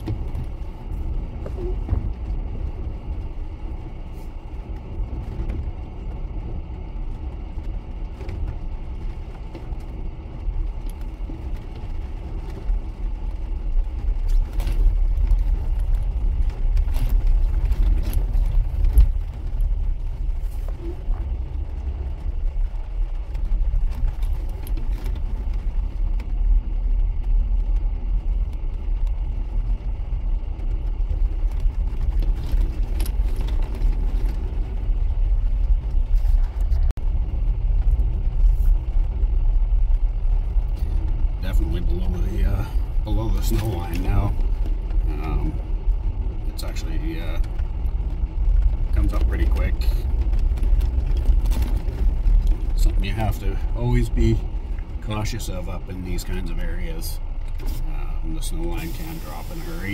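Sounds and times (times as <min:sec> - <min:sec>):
vehicle cabin rumble: 0:00.0 - 0:59.9.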